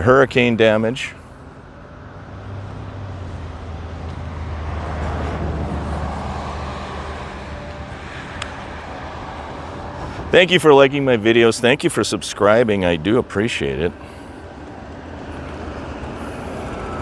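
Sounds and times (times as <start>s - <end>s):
car engine hum: 0.0s - 17.0s
tyre and road noise: 0.0s - 17.0s.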